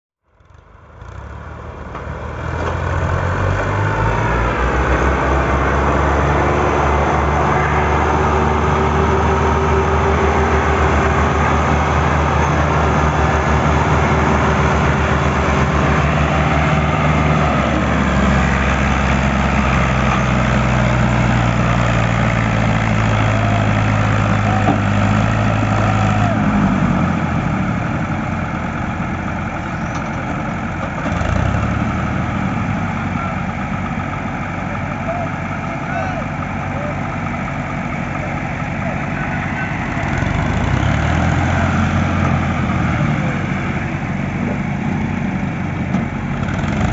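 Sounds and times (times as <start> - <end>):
tractor engine running: 0.3 - 46.9.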